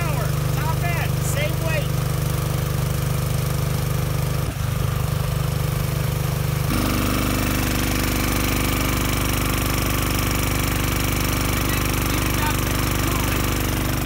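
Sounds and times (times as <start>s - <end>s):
lawnmower engine running: 0.0s - 14.0s.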